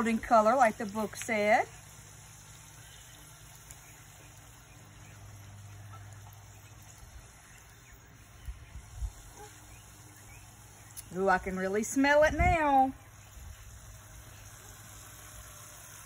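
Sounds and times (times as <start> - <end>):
dough sizzling in oil: 0.0 - 16.0.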